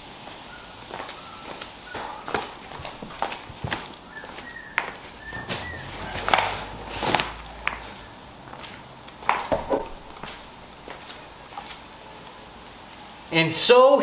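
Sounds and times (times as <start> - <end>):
footsteps on concrete: 0.2 - 11.9.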